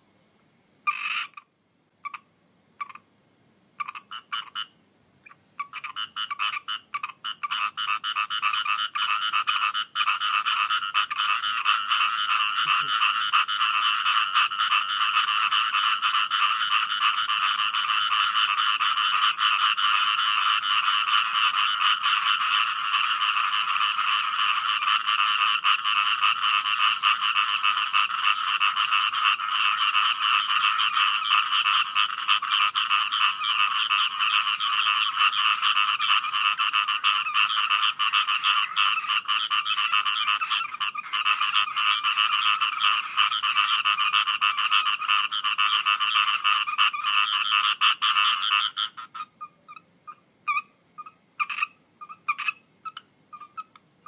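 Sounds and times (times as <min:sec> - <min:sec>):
frog chorus: 0:00.0 - 0:54.0.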